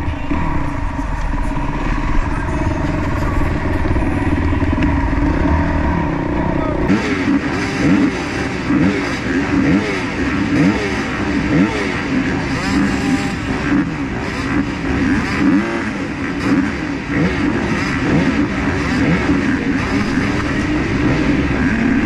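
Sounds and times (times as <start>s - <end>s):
motocross engines revving: 0.0s - 22.0s.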